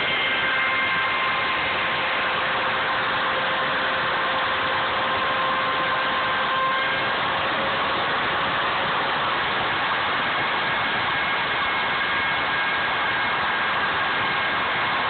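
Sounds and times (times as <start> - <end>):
router cutting wood: 0.0 - 15.0.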